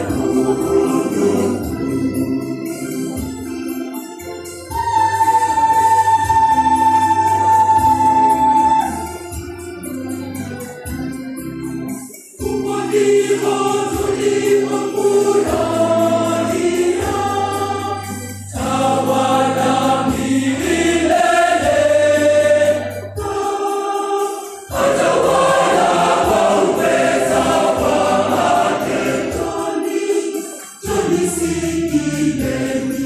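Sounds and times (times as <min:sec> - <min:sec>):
choir singing a hymn: 0:00.0 - 0:03.3, 0:04.7 - 0:09.0, 0:12.4 - 0:33.0.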